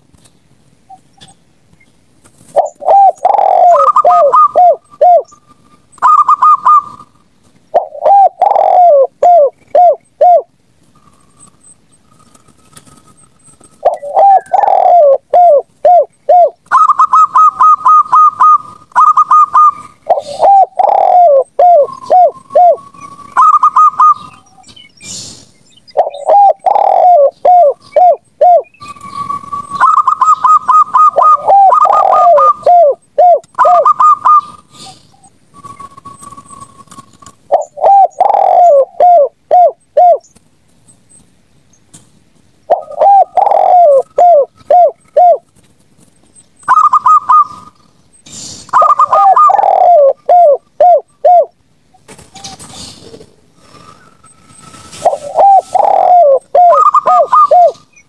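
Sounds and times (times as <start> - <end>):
doves cooing: 2.4 - 25.3, 25.9 - 40.3, 42.6 - 45.5, 46.6 - 48.0, 48.7 - 58.0.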